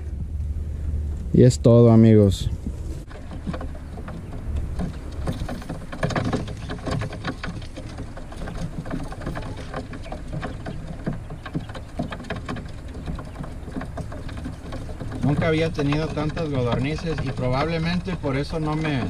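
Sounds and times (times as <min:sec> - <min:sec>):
low rumble: 0:00.0 - 0:18.8
quail pecking on wire mesh: 0:03.0 - 0:19.0.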